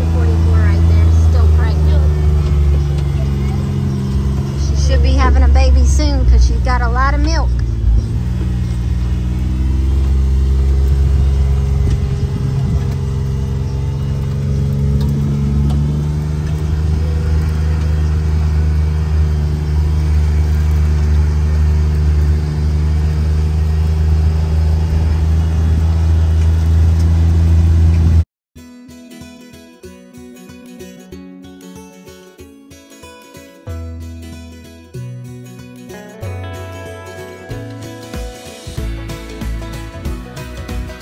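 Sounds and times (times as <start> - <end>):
vehicle engine running: 0.0 - 28.2, 33.6 - 41.0.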